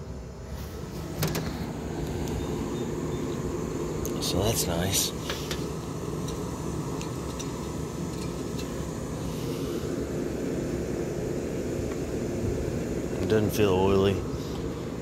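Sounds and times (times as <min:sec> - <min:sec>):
air conditioning drone: 0:00.0 - 0:15.0.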